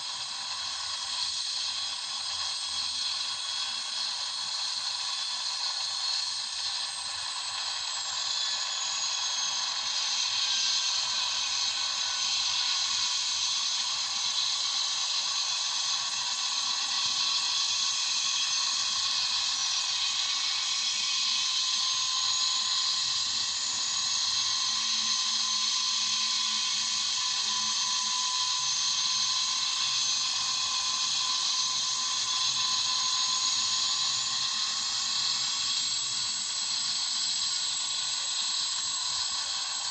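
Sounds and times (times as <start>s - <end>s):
helicopter turbine whine: 0.0s - 39.9s.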